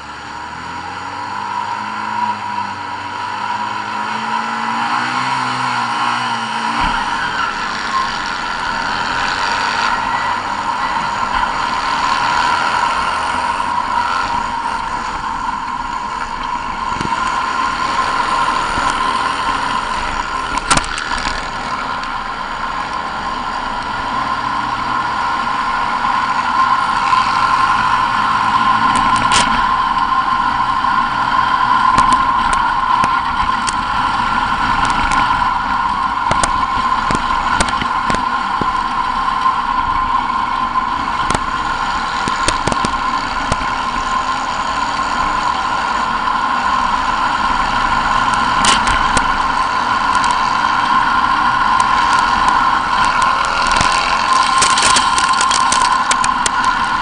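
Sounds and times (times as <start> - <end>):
racing buggy engine running hard: 0.0 - 57.0.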